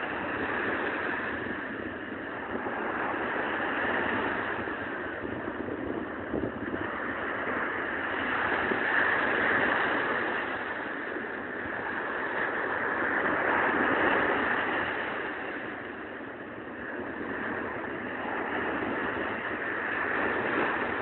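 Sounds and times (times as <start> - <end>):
surf breaking on shore: 0.0 - 21.0.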